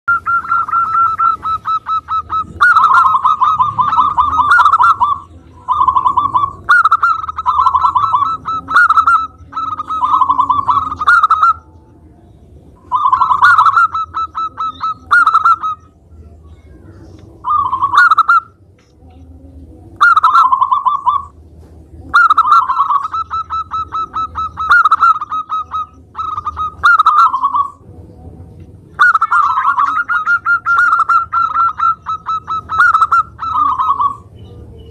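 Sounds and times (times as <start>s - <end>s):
dove cooing: 0.1s - 11.8s, 12.8s - 15.9s, 16.9s - 18.6s, 19.2s - 34.9s.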